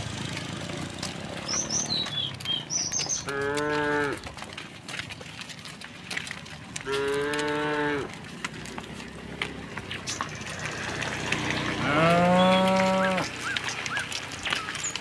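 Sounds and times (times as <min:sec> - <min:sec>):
cows mooing: 0:00.0 - 0:04.7, 0:06.5 - 0:15.0.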